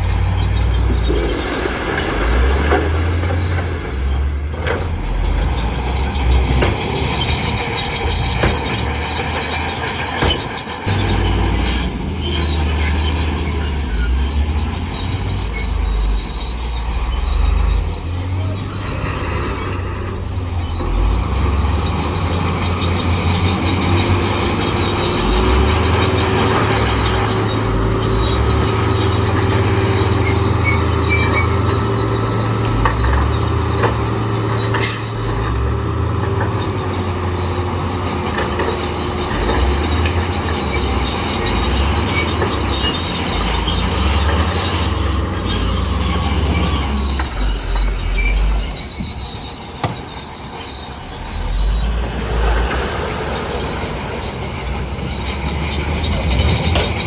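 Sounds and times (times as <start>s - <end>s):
bulldozer engine rumbling: 0.0s - 57.0s
steel tracks squealing: 0.0s - 57.0s.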